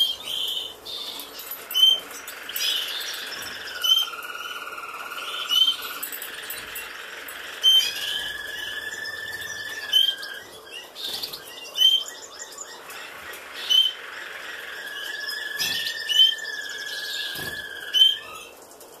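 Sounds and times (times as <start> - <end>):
finches chirping: 0.0 - 18.6
thin steady high tone: 0.0 - 18.6
soft bird chatter: 0.0 - 19.0.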